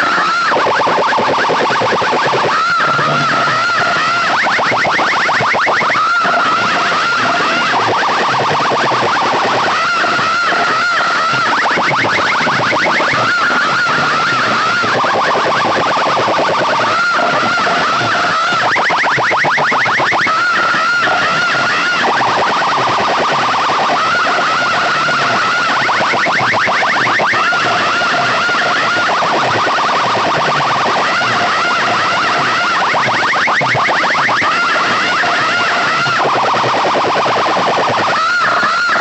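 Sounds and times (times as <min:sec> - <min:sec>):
electronic siren effect: 0:00.0 - 0:39.0.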